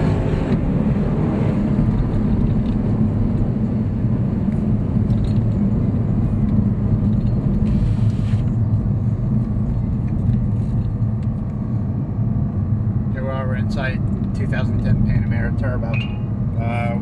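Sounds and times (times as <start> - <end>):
car exhaust rumble: 0.0 - 17.0.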